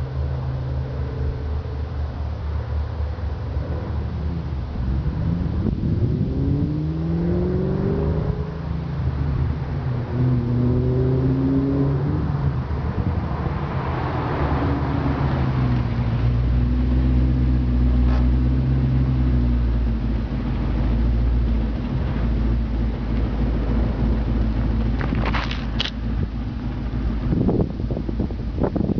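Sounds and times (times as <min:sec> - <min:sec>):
car engine revving: 0:00.0 - 0:28.9.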